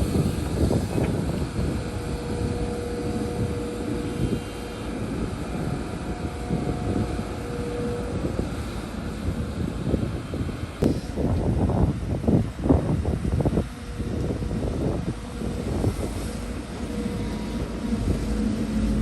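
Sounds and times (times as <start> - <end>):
diesel machinery rumble: 0.0 - 19.0
machinery whine: 0.0 - 19.0.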